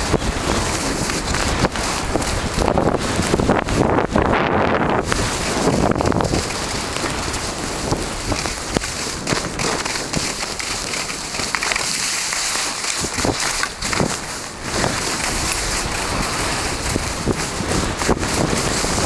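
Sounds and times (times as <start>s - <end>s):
skis hissing on snow: 0.0s - 3.3s, 5.1s - 19.0s
crackling snow scrapes: 0.0s - 19.0s
wind rushing across microphone: 0.0s - 19.0s.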